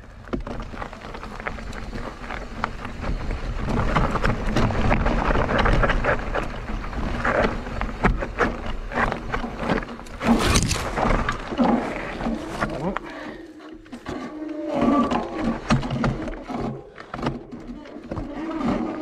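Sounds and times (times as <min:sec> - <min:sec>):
bike rattling and clicking: 0:00.0 - 0:19.0
tyres on dirt and stones: 0:00.0 - 0:19.0.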